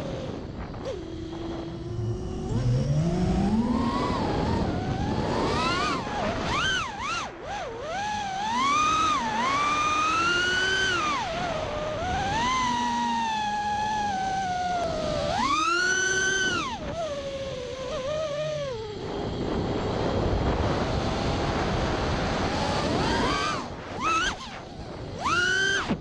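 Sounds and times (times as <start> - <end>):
quadcopter motors whining: 0.0 - 26.0
rushing wind: 0.0 - 26.0.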